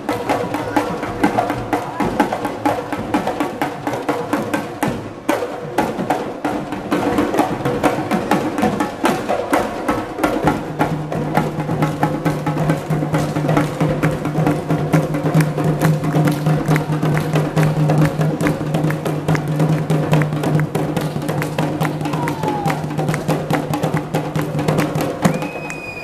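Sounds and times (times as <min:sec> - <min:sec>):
drums beating fast rhythm: 0:00.0 - 0:26.0.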